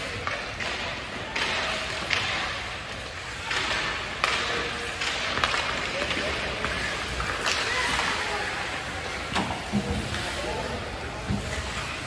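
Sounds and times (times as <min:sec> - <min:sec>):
hockey sticks and puck knocking: 0:00.0 - 0:10.4
skate blades scraping ice: 0:00.0 - 0:12.0.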